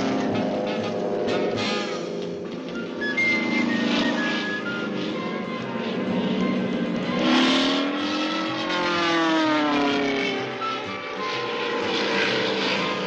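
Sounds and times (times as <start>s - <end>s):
sliding pitched tone: 0.0s - 13.0s.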